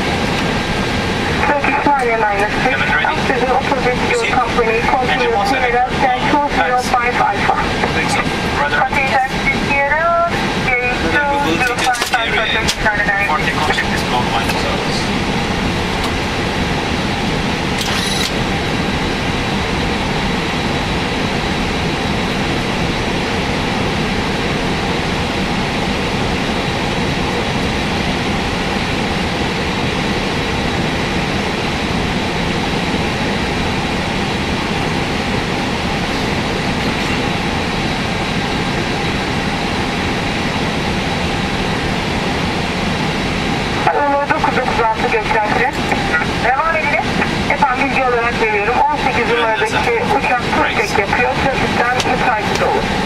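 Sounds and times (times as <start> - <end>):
faint high whine: 0.0 - 53.0
jet engine and airflow roar: 0.0 - 53.0.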